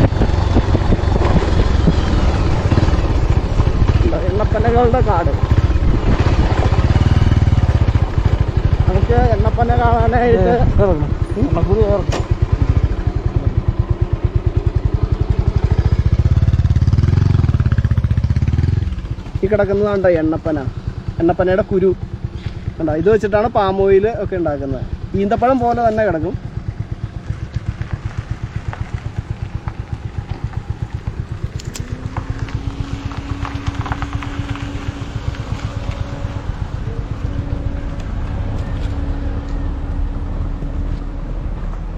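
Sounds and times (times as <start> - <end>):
motorcycle engine at low revs: 0.0 - 41.9
steady whine: 0.0 - 41.9.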